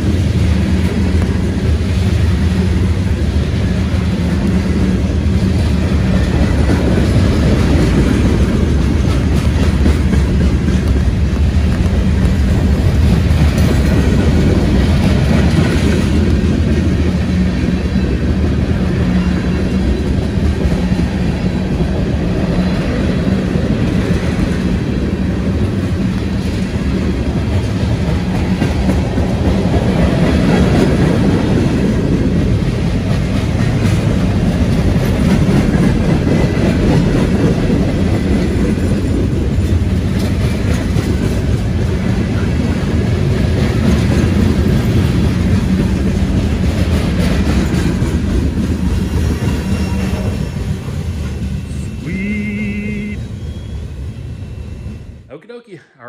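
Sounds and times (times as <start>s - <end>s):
freight train wheels rumbling: 0.0s - 55.3s.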